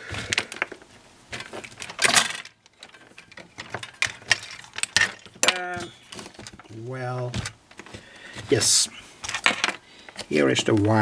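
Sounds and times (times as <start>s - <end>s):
wires and tools rattling: 0.0s - 11.0s.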